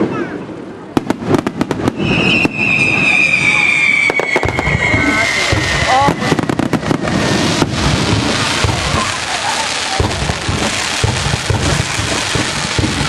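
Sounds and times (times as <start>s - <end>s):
fireworks crackling: 0.0s - 13.0s
firework shells booming: 0.9s - 13.0s.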